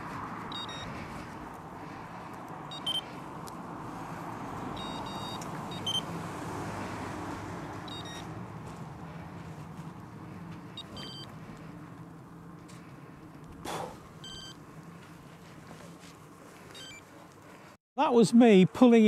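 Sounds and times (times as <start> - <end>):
bicycle road and wind noise: 0.0 - 17.8.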